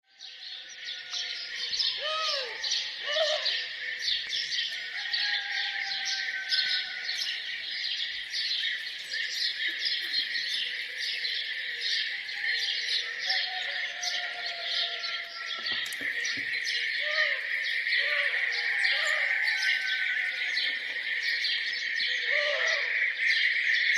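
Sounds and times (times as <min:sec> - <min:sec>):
songbirds chirping and twittering: 0:00.0 - 0:23.9
lower arched bird calls: 0:01.0 - 0:23.5.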